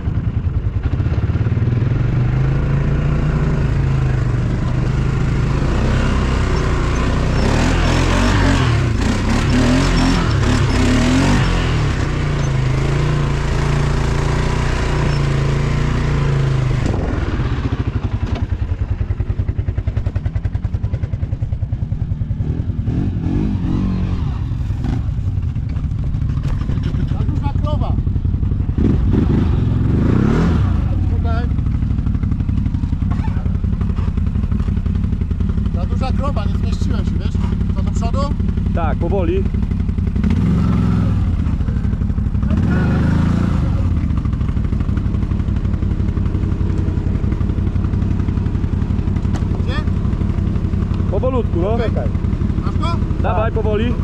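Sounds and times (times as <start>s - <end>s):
atv engine revving and idling: 0.0s - 54.0s.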